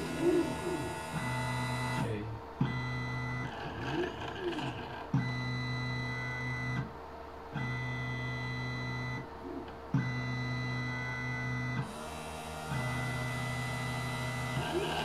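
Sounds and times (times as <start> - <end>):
stepper motors whining: 0.0 - 6.9, 7.6 - 15.0.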